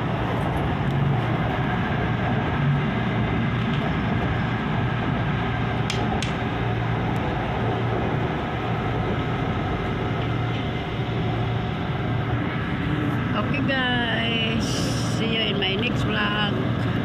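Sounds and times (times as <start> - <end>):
train car rumble and hum: 0.0 - 17.0.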